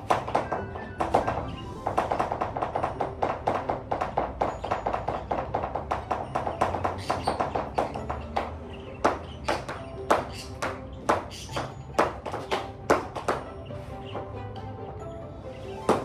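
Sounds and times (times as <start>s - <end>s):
quick rhythmic tapping: 0.0s - 14.5s
music: 0.0s - 16.0s.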